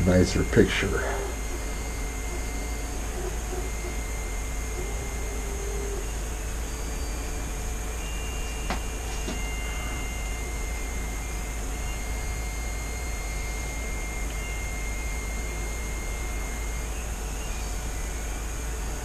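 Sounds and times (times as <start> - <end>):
room noise hum and hiss: 0.0 - 19.0.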